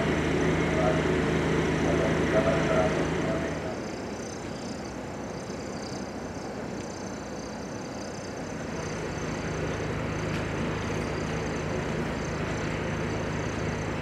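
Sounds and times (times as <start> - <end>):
low steady hum: 0.0 - 14.0
vehicle or machinery noise: 0.0 - 14.0.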